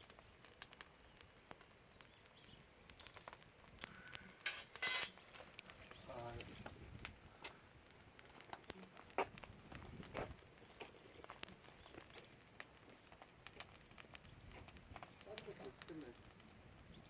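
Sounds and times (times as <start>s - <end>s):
firewood crackling: 0.0s - 17.0s
loud pops from fire: 0.0s - 17.0s.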